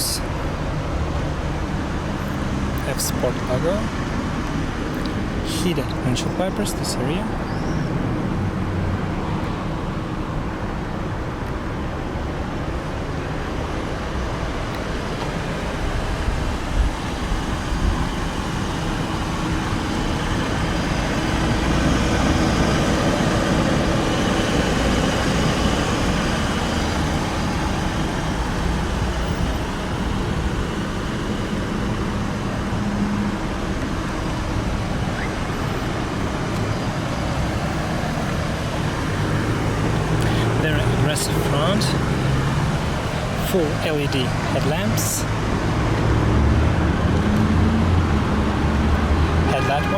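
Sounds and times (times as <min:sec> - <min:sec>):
road traffic noise: 0:00.0 - 0:49.9.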